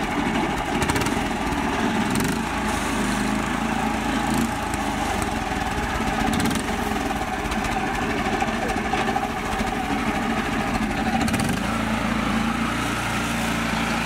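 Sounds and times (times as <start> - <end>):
small tractor engine pulsing: 0.0 - 14.0.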